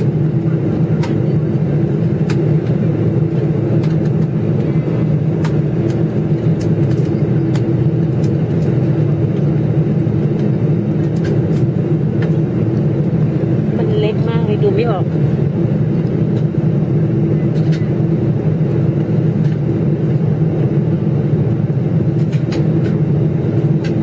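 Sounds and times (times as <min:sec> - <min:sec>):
jet cabin engine rumble: 0:00.0 - 0:24.0.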